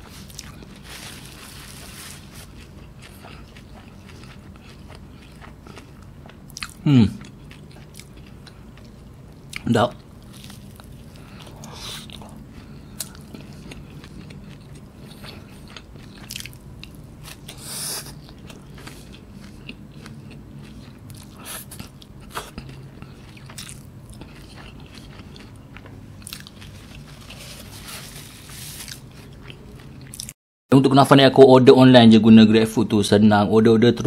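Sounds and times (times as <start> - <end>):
low steady hum: 0.0 - 30.3
chewing pastry: 0.0 - 30.4.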